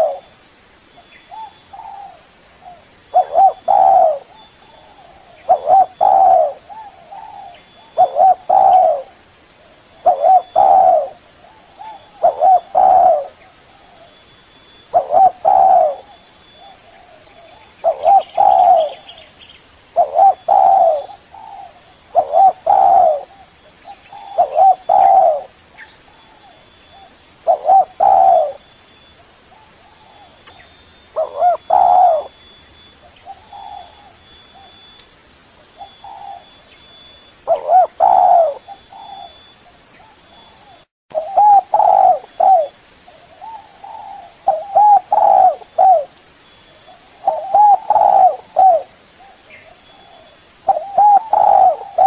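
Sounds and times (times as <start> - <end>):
dove cooing: 0.0 - 0.3, 1.3 - 14.2, 14.9 - 19.3, 20.0 - 28.7, 29.5 - 34.9, 35.7 - 46.2, 46.9 - 52.0.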